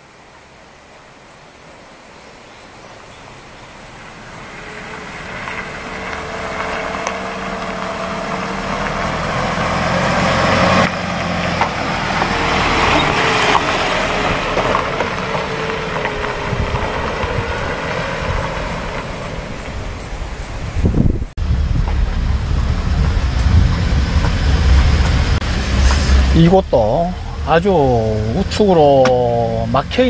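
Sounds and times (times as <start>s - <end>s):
tyre noise on unpaved road: 0.0s - 30.0s
vehicle engine running: 2.8s - 30.0s.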